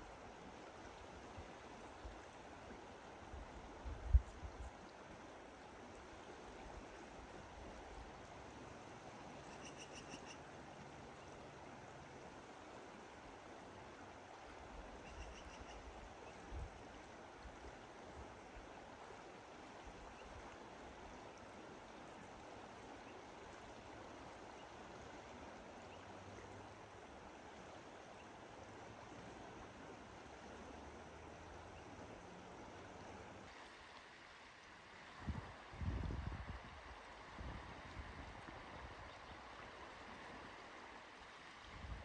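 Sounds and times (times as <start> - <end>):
river water rushing: 0.0 - 4.0, 4.7 - 42.0.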